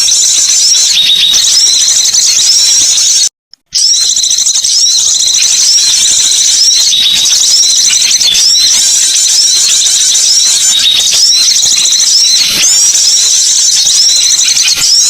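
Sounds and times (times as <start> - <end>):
songbirds chirping and twittering: 0.0 - 15.0.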